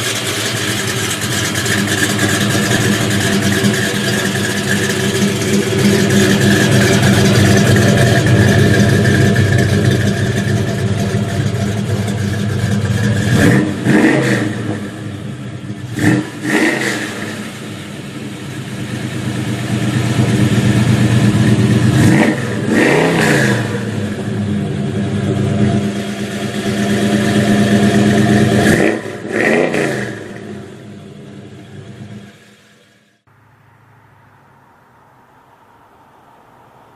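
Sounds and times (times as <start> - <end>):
muscle car engine idling and revving: 0.0 - 34.8.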